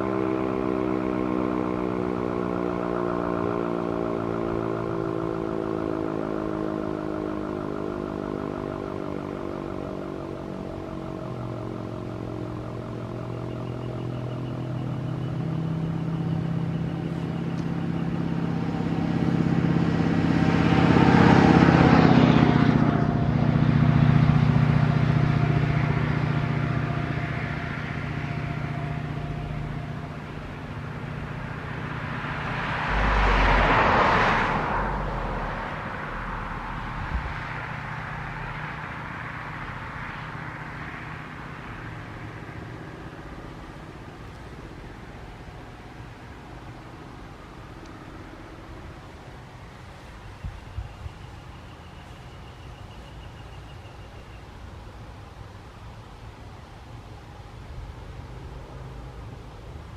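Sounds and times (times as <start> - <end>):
low hum: 0.0 - 53.8
vehicles passing by: 0.0 - 59.9.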